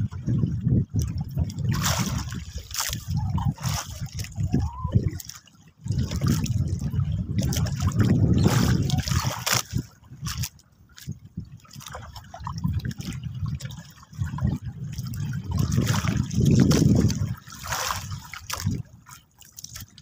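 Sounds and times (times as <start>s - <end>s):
sea water splashing and trickling: 0.0s - 20.0s.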